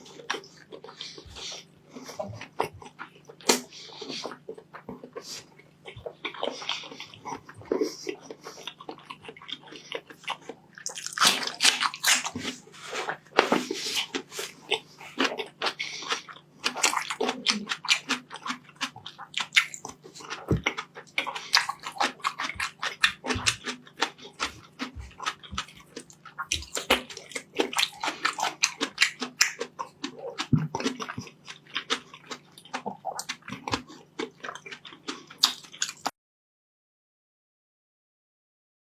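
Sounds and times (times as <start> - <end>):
wet chewing and lip smacking: 0.1 - 36.1.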